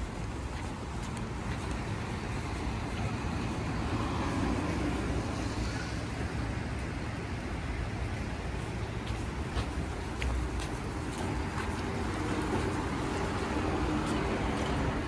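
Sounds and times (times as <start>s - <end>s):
traffic rumble and tyre hiss: 0.0s - 15.0s.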